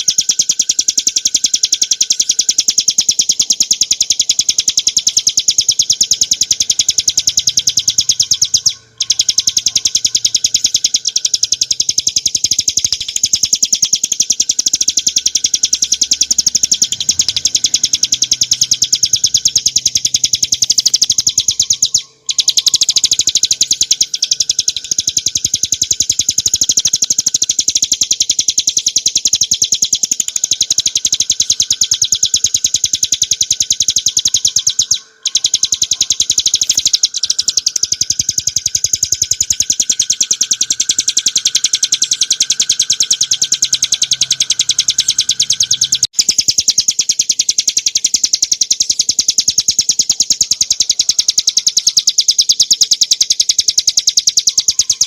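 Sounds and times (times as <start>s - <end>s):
bird singing high sharp notes: 0.0s - 55.0s.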